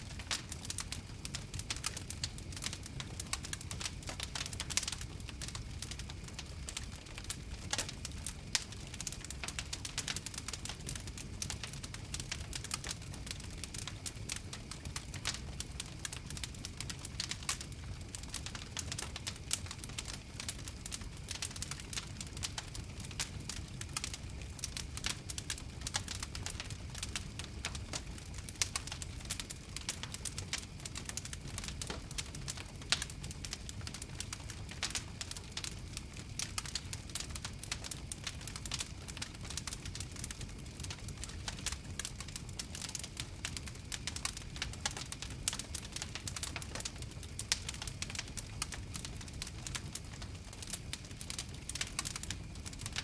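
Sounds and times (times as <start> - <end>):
campfire crackling and popping: 0.0 - 53.0
low rumble of flames: 0.0 - 53.0.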